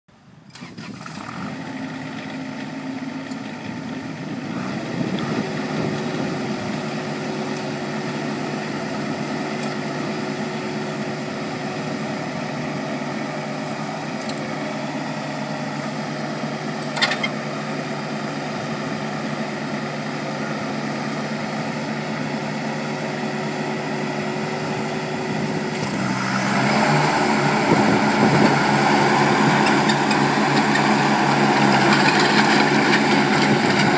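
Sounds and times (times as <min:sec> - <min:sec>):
mower diesel engine running: 0:00.2 - 0:33.9.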